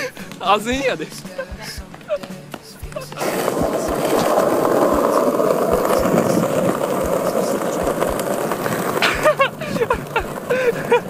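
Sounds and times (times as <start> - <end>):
skateboard wheels rolling on bricks: 0.2 - 11.0.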